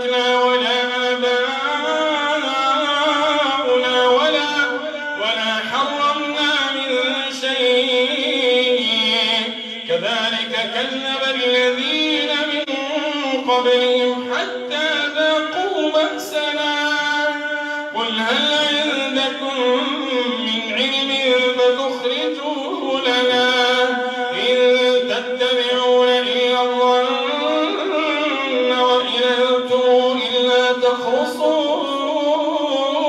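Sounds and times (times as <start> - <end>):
man chanting through a microphone: 0.0 - 33.0.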